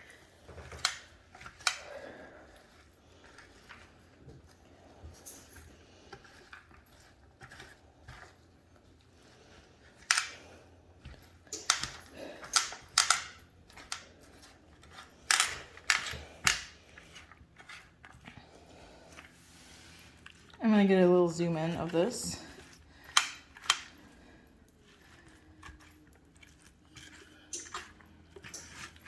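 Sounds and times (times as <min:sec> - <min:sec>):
clicks of handling food and utensils: 0:00.0 - 0:08.9, 0:09.8 - 0:18.5, 0:20.1 - 0:29.0.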